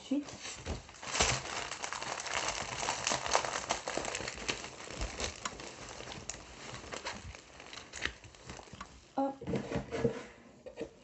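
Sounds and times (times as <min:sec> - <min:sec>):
crinkling and rustling of stiff sheets: 0:00.0 - 0:10.4.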